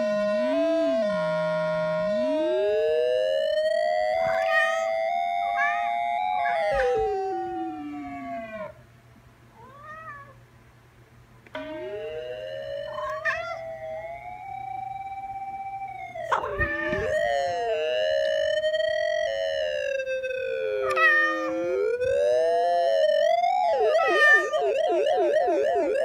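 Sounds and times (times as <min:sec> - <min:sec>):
synthesizer gliding tones: 0:00.0 - 0:08.7, 0:11.6 - 0:26.0.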